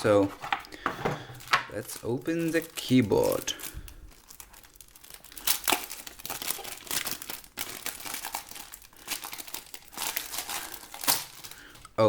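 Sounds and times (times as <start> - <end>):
packaging rustling and crackling: 0.0 - 12.0.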